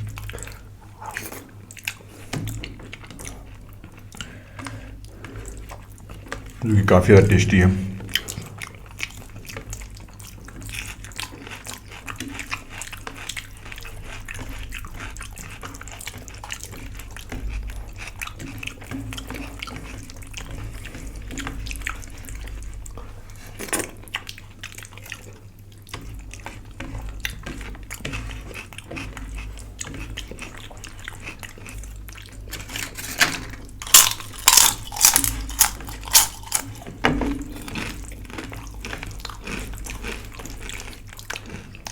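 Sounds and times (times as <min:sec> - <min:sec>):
wet chewing and mouth noises: 0:00.0 - 0:06.6, 0:08.0 - 0:41.9.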